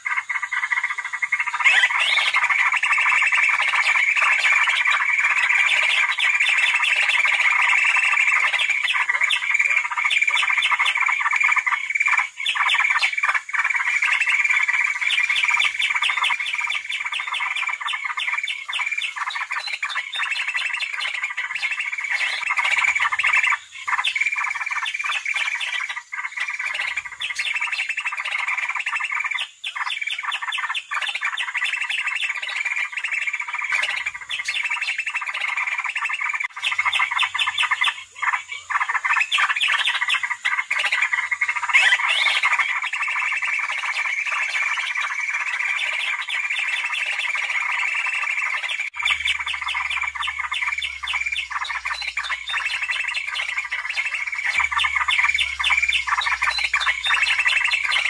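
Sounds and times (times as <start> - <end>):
birds chattering and squawking: 0.0 - 58.0.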